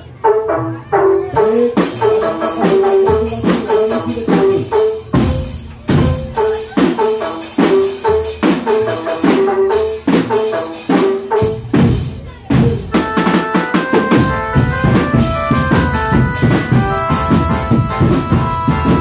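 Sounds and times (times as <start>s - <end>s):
repeating melody line: 1.3s - 11.5s, 12.9s - 19.0s
snare and tom drums beating: 1.4s - 19.0s.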